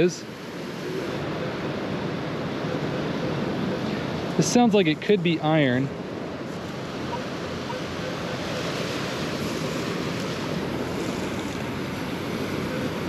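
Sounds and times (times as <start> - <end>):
ocean surf washing: 0.0 - 13.0.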